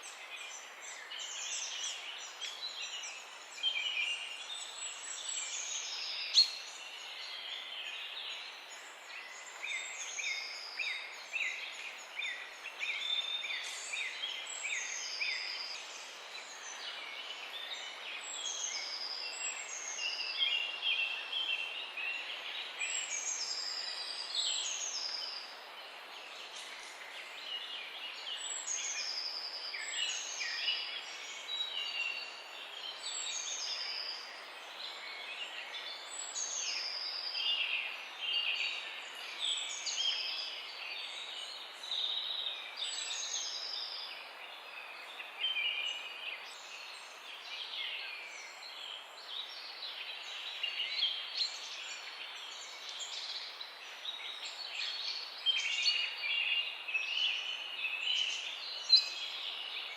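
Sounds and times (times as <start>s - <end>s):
faint steady hiss: 0.0s - 59.9s
songbirds singing: 0.0s - 59.9s.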